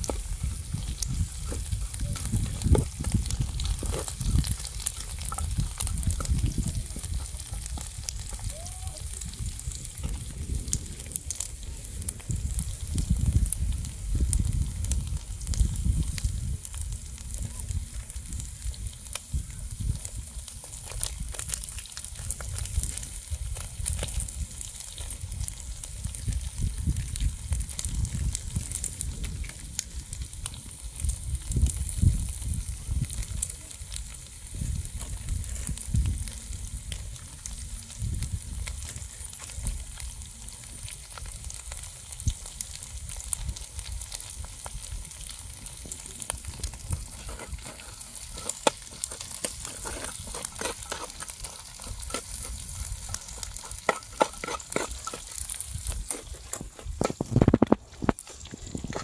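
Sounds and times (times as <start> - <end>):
crackles and pops: 0.0 - 59.0
meat sizzling in a pan: 0.0 - 59.0.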